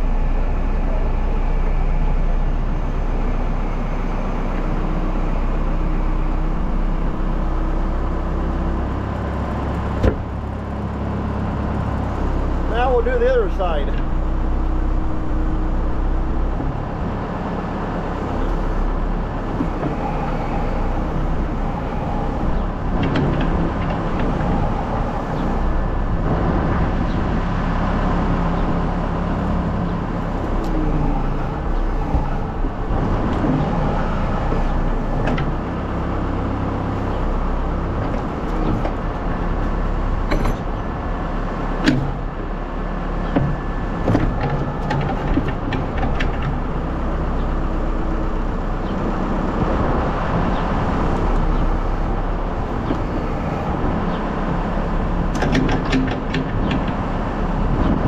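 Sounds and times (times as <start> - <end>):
backhoe engine under load: 0.0 - 58.0.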